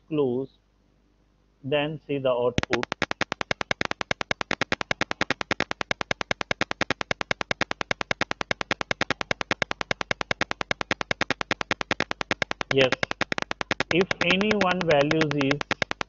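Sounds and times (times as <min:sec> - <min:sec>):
buzzer rapid clicking: 0:02.6 - 0:16.0.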